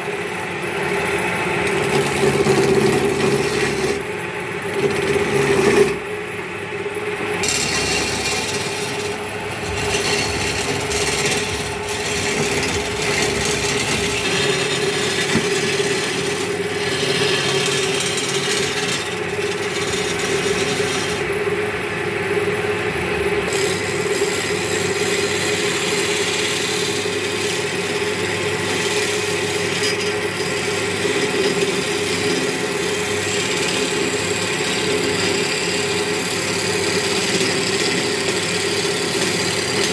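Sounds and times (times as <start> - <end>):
turning tool shaving wood: 0.0 - 21.7, 23.4 - 39.9
wood lathe humming: 0.0 - 39.9.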